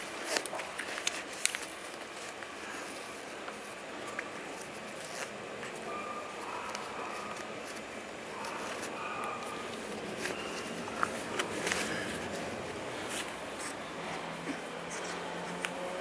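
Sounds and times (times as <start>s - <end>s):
shoelaces rustling: 0.0s - 15.9s.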